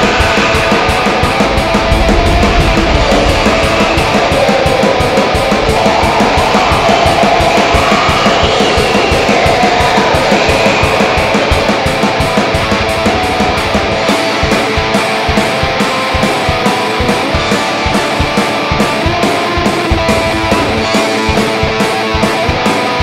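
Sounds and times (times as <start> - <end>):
distorted electric guitar: 0.0 - 23.0
fast steady drumming: 0.0 - 23.0.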